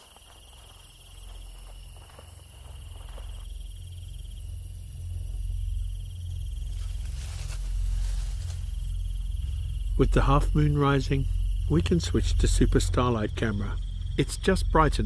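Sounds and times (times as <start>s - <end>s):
crickets chirring: 0.0s - 15.0s
low rumbling drone: 2.5s - 15.0s.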